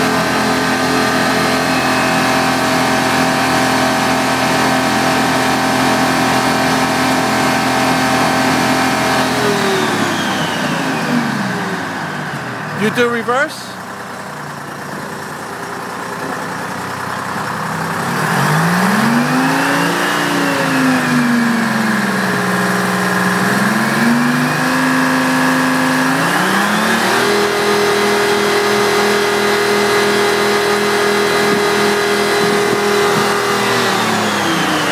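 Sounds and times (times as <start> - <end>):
engine and hydraulic drive running: 0.0 - 34.9.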